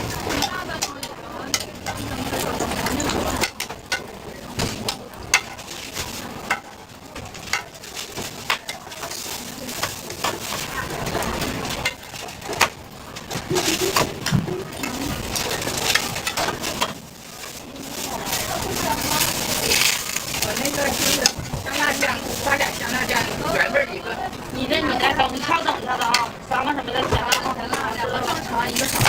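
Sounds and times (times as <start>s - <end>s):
low background hum: 0.0s - 29.0s
metal utensils clinking on pans: 0.0s - 29.0s.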